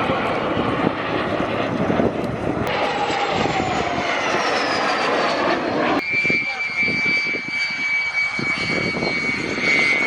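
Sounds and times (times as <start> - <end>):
jet engines roaring with high whine: 0.0 - 10.0.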